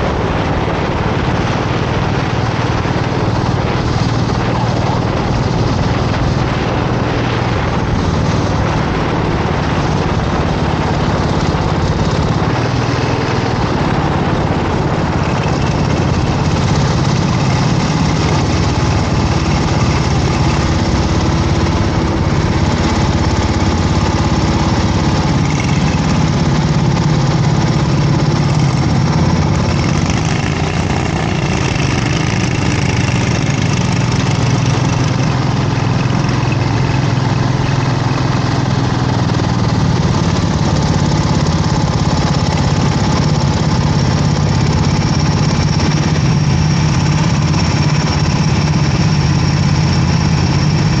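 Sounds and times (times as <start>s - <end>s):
kart engine running: 0.0s - 51.0s.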